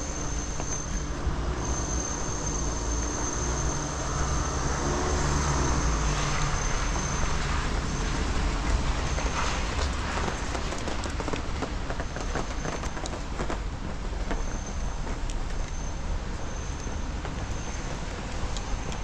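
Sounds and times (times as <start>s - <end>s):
vehicle passing on wet road: 0.0s - 16.4s.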